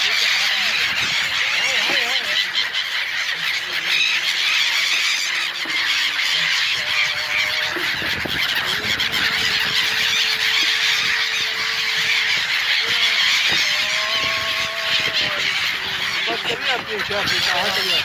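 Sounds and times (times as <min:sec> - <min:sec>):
gulls calling and squealing: 0:00.0 - 0:18.0.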